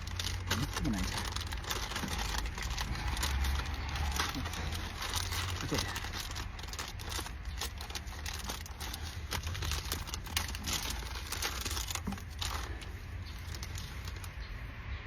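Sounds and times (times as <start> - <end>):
packaging crinkling and tearing: 0.0 - 14.7.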